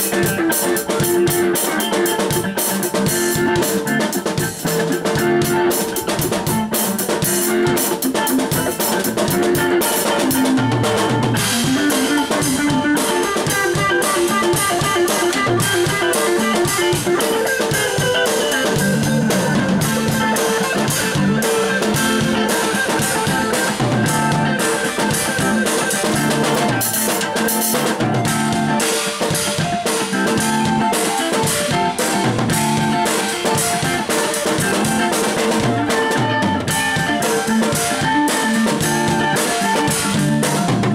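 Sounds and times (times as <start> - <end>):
instrumental music with drums and guitar: 0.0 - 40.9.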